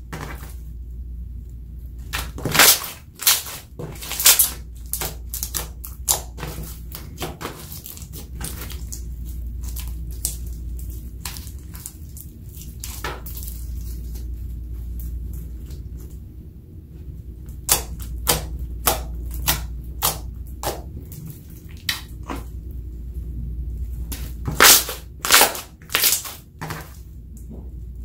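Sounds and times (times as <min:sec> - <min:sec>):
slime squelching: 0:01.8 - 0:16.3, 0:17.0 - 0:28.0.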